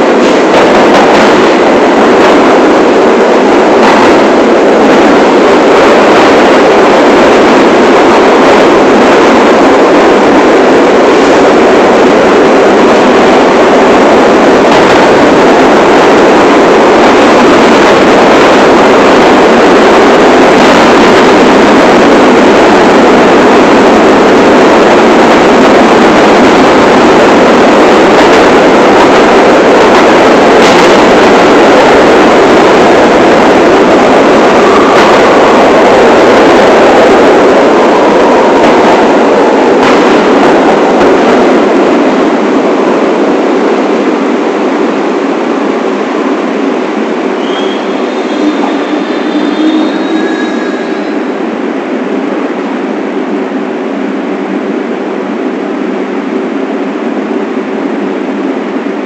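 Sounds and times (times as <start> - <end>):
subway train rumbling on rails: 0.0 - 59.0.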